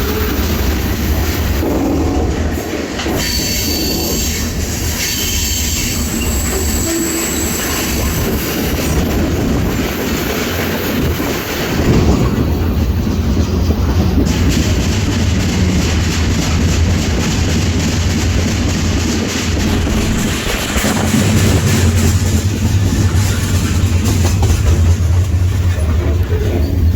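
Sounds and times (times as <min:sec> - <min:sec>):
freight train rumbling: 0:00.0 - 0:26.9
train wheel clatter: 0:00.0 - 0:26.9.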